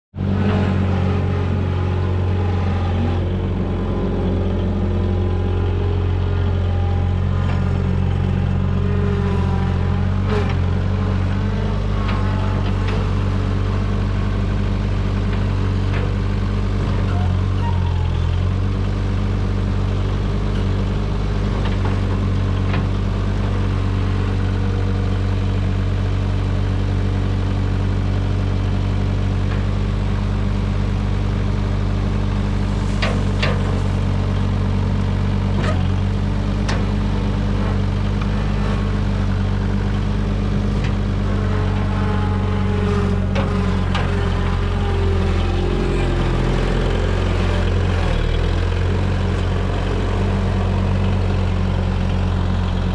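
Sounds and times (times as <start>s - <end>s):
skid steer engine running: 0.2s - 52.9s.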